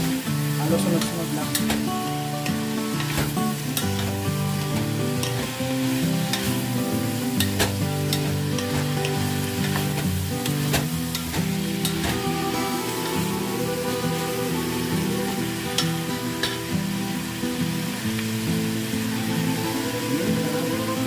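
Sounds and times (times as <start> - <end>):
light background music: 0.0 - 21.0
meat sizzling in a pot: 0.0 - 21.0.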